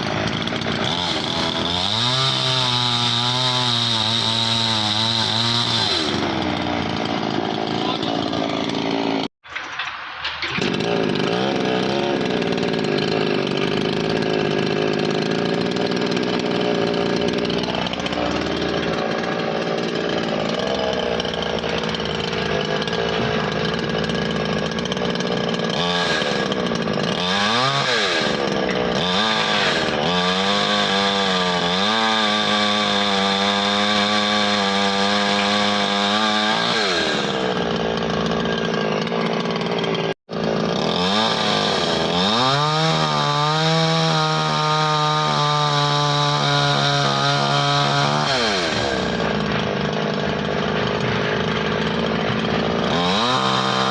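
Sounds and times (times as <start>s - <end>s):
chainsaw engine revving: 0.0s - 53.9s.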